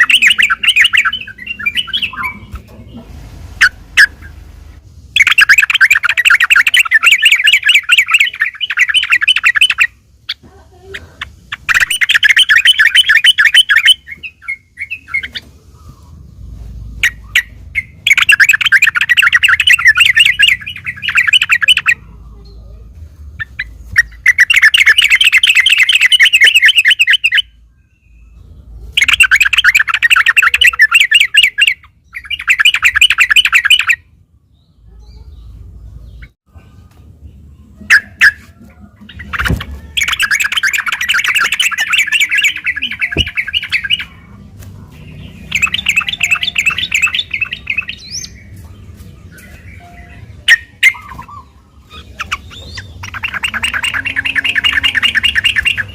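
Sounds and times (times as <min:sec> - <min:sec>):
bulbul singing chattering phrases: 0:00.0 - 0:03.0, 0:03.6 - 0:27.6, 0:28.4 - 0:55.9.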